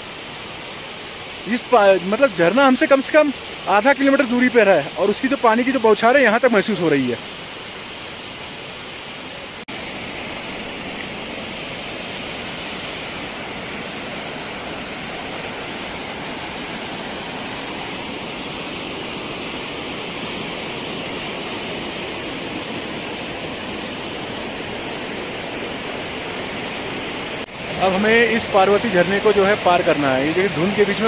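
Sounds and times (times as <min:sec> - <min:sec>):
waterfall rushing over stones: 0:00.0 - 0:31.0.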